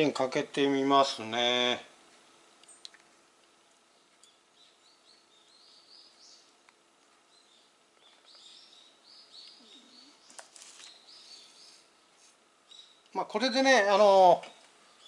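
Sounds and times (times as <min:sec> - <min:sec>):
faint bird chirping: 0:02.2 - 0:15.0.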